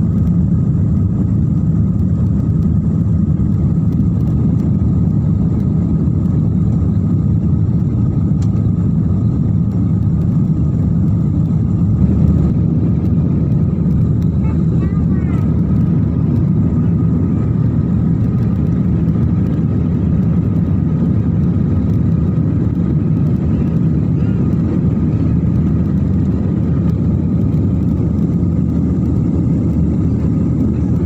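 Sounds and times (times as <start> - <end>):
airliner cabin engine drone: 0.0 - 31.0.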